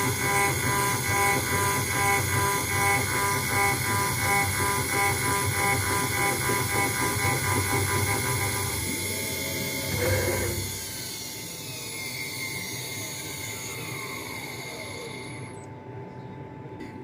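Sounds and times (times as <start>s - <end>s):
router spindle whine winding down: 0.0s - 15.7s.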